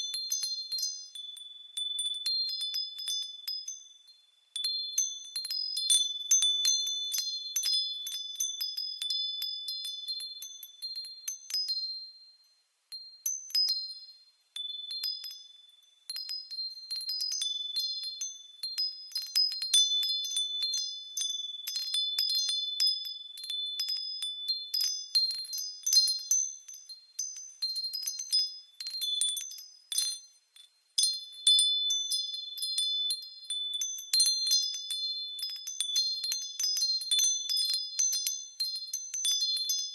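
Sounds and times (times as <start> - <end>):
wind chimes ringing: 0.0 - 39.9.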